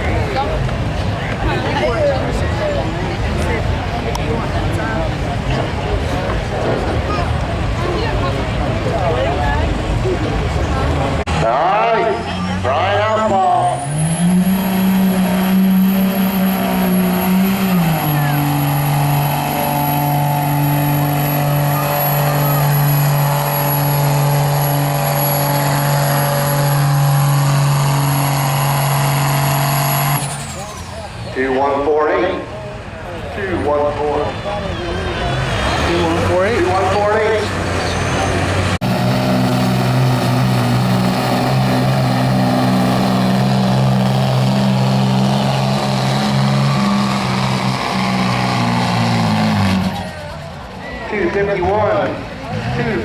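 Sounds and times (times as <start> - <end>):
engine at full throttle: 0.0 - 32.5, 35.1 - 53.0.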